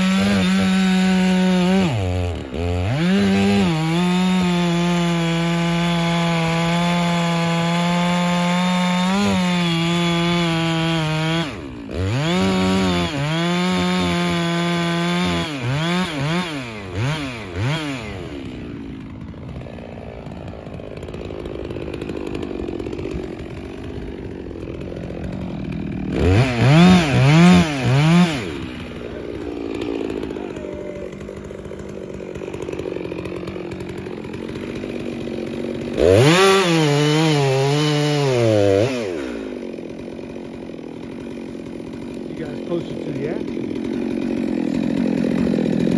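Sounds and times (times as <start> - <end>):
chainsaw cutting log: 0.0 - 45.9
chainsaw idling and revving: 0.0 - 45.9.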